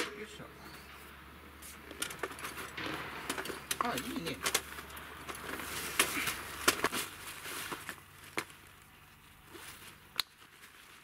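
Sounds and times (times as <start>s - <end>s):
rustling of bags: 1.6s - 11.0s.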